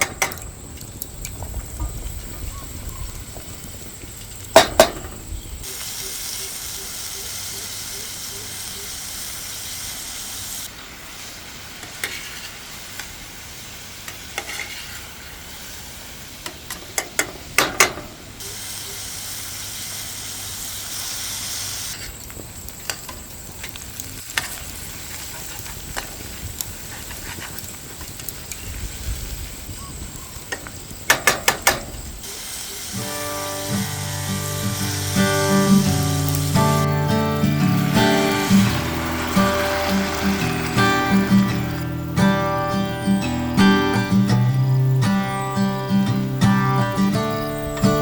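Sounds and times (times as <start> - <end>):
food sizzling in frying: 0.0 - 17.5, 18.3 - 48.0.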